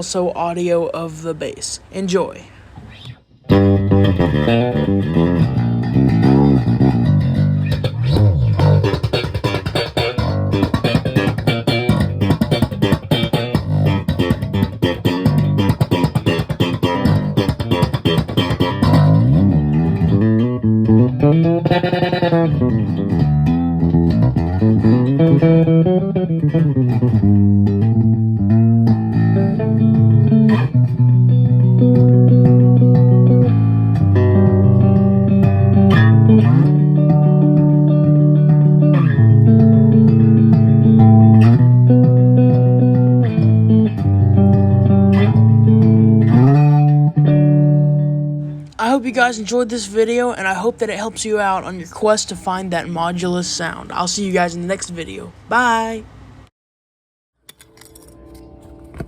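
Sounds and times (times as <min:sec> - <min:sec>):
electric bass notes: 0:03.4 - 0:51.7.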